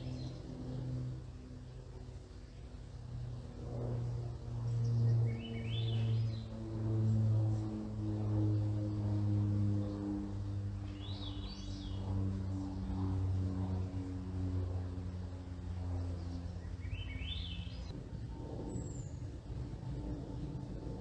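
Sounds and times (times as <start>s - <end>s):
aircraft drone overhead: 0.0s - 21.0s.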